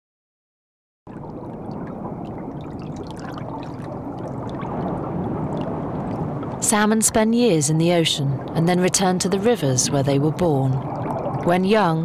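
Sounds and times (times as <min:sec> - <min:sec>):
rushing water bubbling: 0:01.1 - 0:11.9.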